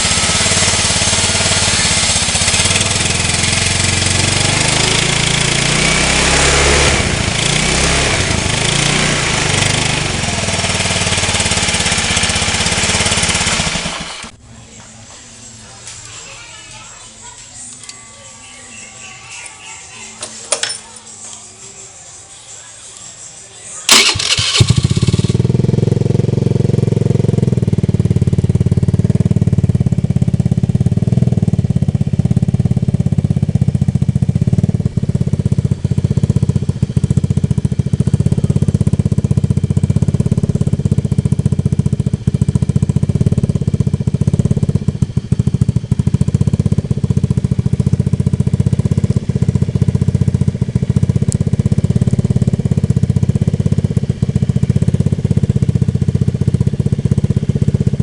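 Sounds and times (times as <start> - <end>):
scooter engine idling: 0.0 - 14.6, 23.9 - 58.0.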